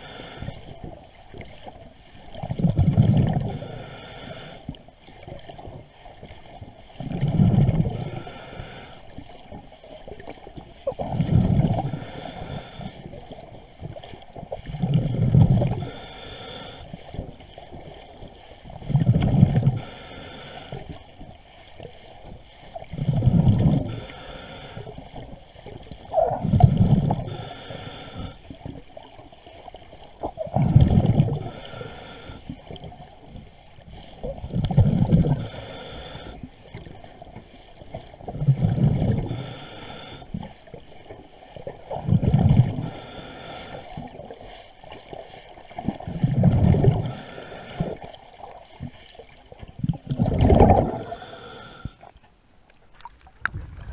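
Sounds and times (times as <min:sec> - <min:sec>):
underwater bubbling rush of water: 0:00.0 - 0:52.2, 0:52.9 - 0:53.9.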